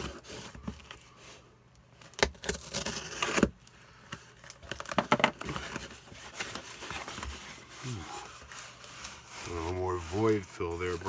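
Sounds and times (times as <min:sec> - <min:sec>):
packing material rustling: 0:02.0 - 0:11.0.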